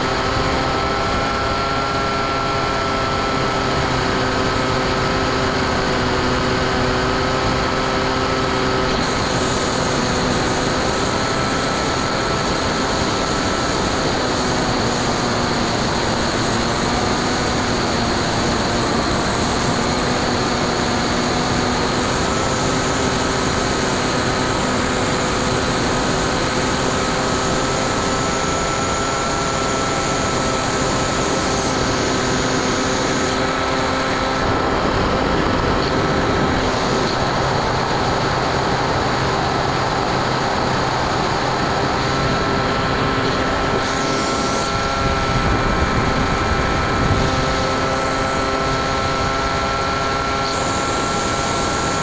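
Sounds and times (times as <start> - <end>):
electric motor and propeller whine: 0.0 - 52.0
wind rushing over camera: 5.4 - 52.0.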